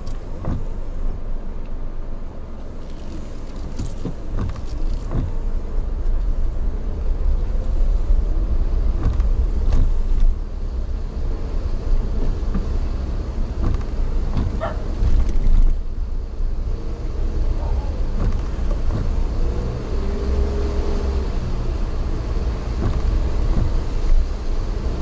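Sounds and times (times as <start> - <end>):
vehicle rumbling: 0.0 - 25.0.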